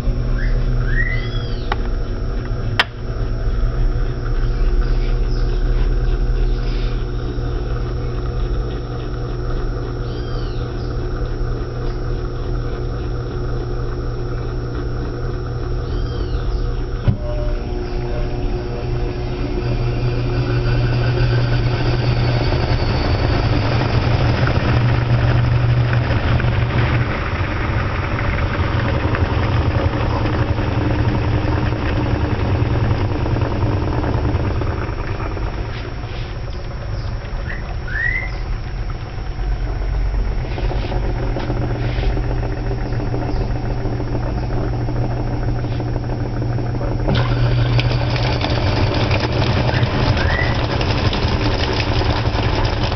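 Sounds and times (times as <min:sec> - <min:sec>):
washing machine running: 0:00.0 - 0:52.9.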